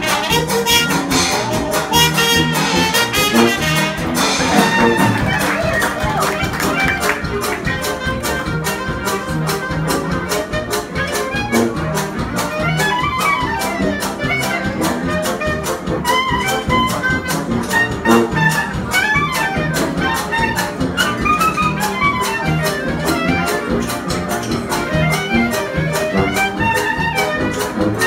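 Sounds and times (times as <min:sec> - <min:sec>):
clarinet solo: 0:00.0 - 0:01.1, 0:01.9 - 0:23.8, 0:24.7 - 0:28.0
jazz band rhythm section: 0:00.0 - 0:28.0.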